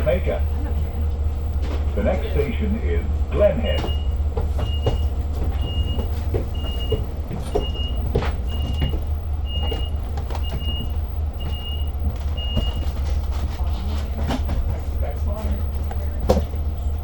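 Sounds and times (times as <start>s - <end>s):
low hum of train: 0.0s - 17.0s.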